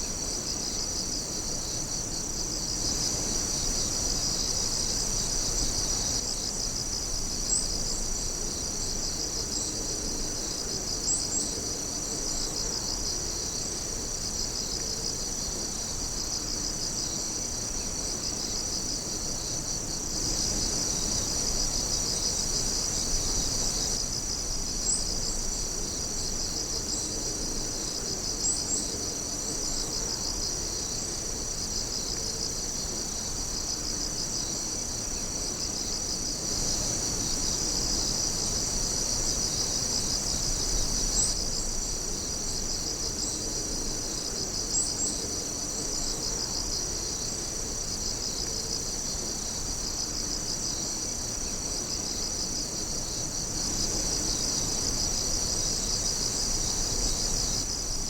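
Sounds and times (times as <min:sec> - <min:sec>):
night insects trilling: 0:00.0 - 0:58.0.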